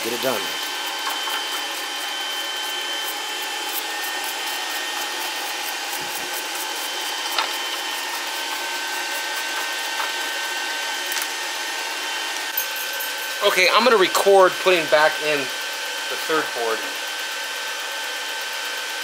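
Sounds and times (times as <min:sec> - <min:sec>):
electric blower whining: 0:00.0 - 0:19.0.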